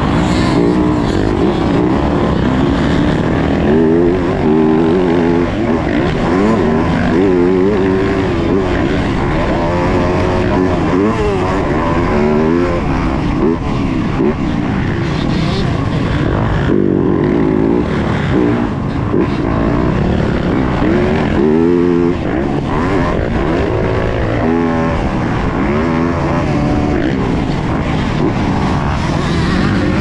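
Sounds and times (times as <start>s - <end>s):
motocross engine revving: 0.0s - 30.0s.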